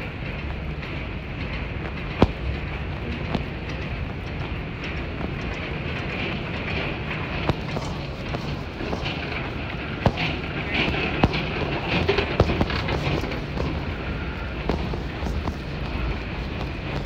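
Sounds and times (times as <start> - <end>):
low hum and rumble: 0.0 - 17.0
suitcase wheels rolling: 0.0 - 17.0.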